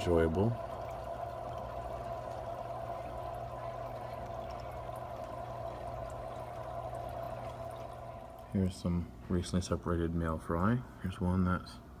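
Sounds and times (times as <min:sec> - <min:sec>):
water trickling: 0:00.0 - 0:10.1
low steady hum: 0:00.0 - 0:12.0.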